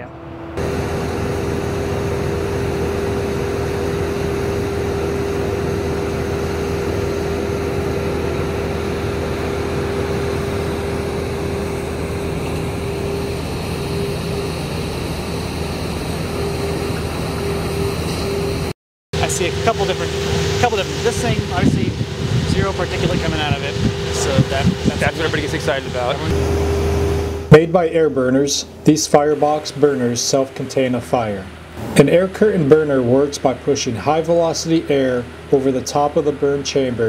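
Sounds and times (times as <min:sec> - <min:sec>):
blower machinery drone: 0:00.0 - 0:37.0
mini excavator working: 0:00.0 - 0:37.0.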